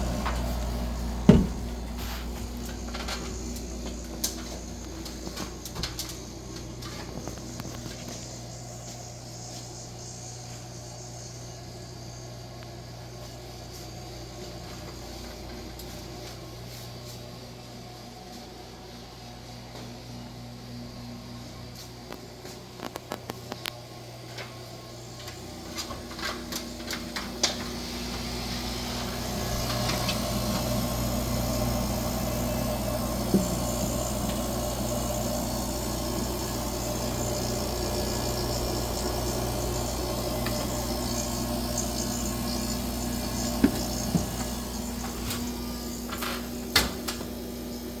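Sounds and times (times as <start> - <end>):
refrigerator compressor hum: 0.0 - 48.0.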